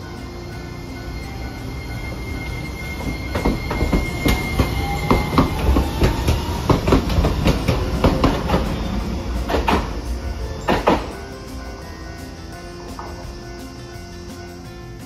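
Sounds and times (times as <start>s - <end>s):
faint rising motor whine: 0.0s - 14.1s
tram wheels clacking over rail joints: 0.0s - 14.7s
tram low running rumble: 0.0s - 15.0s.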